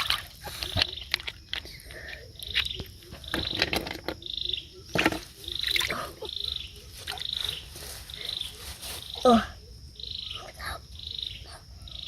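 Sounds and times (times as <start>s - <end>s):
frogs calling: 0.0s - 12.0s.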